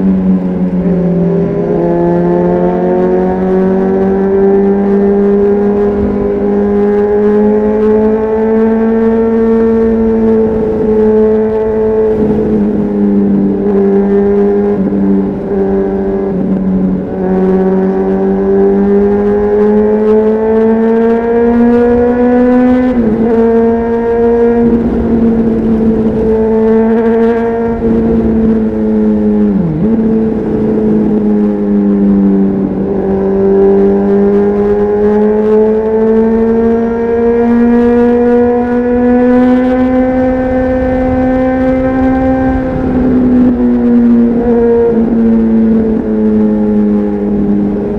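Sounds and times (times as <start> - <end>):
motorcycle engine riding: 0.0 - 47.9.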